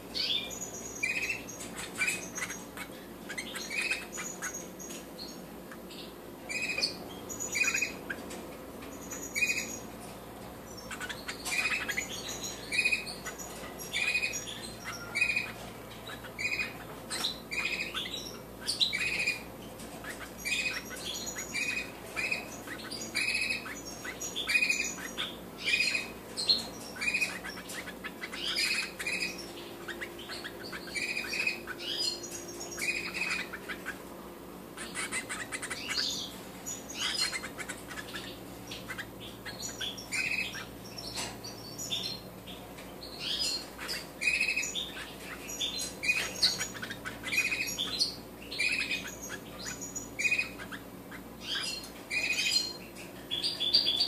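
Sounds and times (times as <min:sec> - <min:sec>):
nestlings begging chirps: 0:00.0 - 0:54.0.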